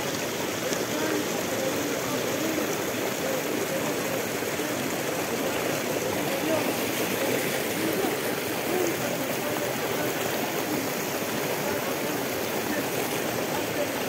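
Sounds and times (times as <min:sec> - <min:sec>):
crowd murmuring: 0:00.0 - 0:14.0.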